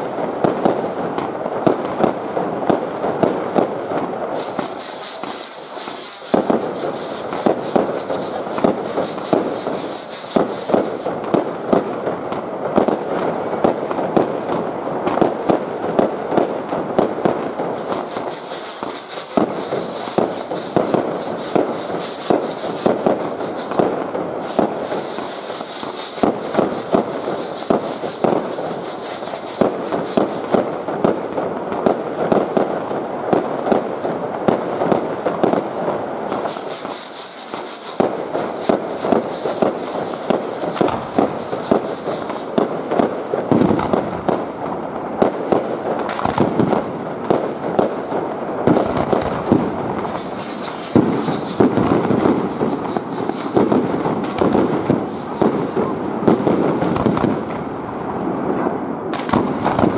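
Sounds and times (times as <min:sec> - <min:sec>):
fireworks hissing: 0:00.0 - 0:57.8, 0:59.1 - 0:59.9
fireworks bangs and crackling: 0:00.0 - 0:59.9.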